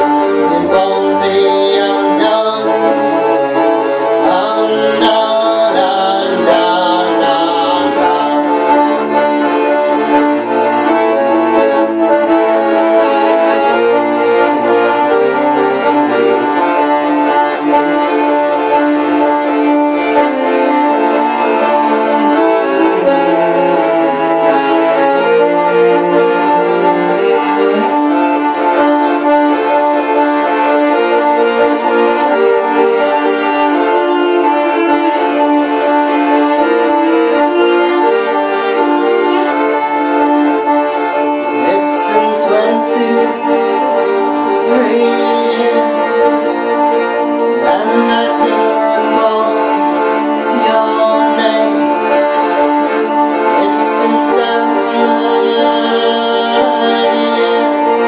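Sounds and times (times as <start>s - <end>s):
accordion chords: 0.0s - 58.0s
bowed cello: 0.0s - 58.0s.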